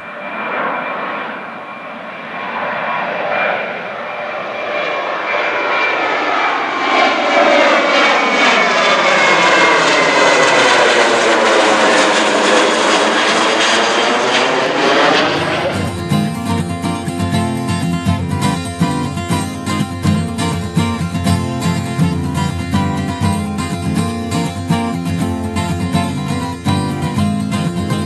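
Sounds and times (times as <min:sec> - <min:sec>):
jet airliner flying overhead: 0:00.0 - 0:28.0.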